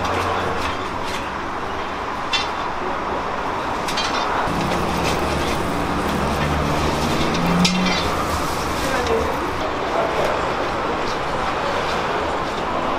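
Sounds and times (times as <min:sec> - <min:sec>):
low traffic hum: 0:00.0 - 0:12.9.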